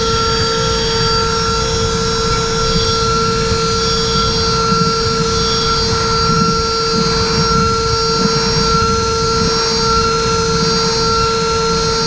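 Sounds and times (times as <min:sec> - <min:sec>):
fluttering metal cutting noise: 0:00.0 - 0:12.0
milling spindle high-pitched whine: 0:00.0 - 0:12.0.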